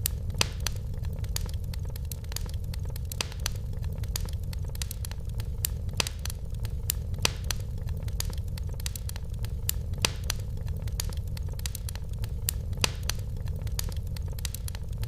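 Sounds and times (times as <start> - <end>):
fire crackling and popping: 0.0 - 15.0
steady low rumble: 0.0 - 15.0.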